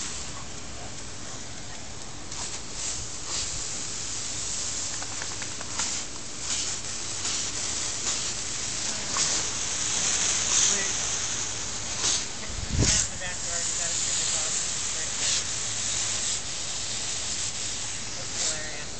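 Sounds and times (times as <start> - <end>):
lawn sprinkler hissing: 0.0 - 18.9
water spray spurts: 0.0 - 18.9.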